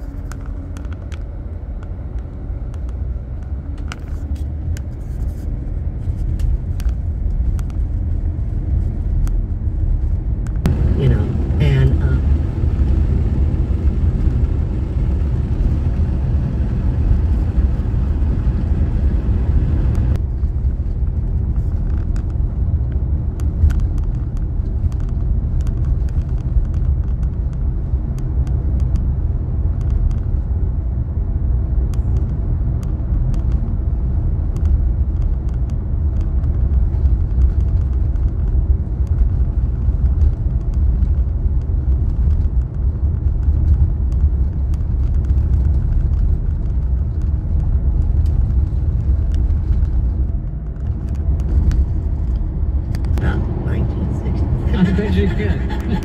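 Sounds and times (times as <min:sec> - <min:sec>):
tyres and engine rumble in car: 0:00.0 - 0:56.0.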